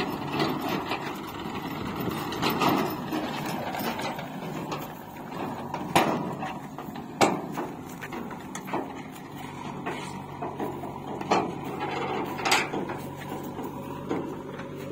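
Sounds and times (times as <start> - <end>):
diesel engine running: 0.0 - 14.9
sharp knocks and clanks: 0.0 - 14.9.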